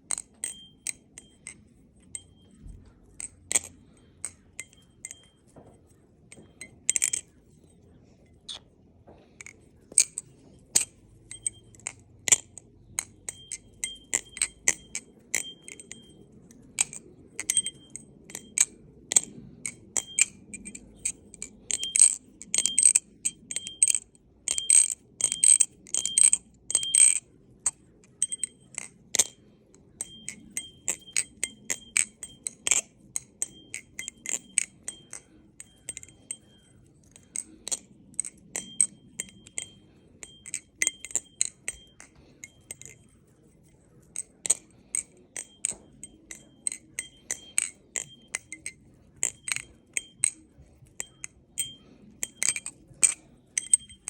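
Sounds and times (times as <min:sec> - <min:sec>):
butterfly knife handles clacking: 0:00.0 - 0:54.0
metallic ring: 0:00.1 - 0:08.7, 0:09.4 - 0:54.0.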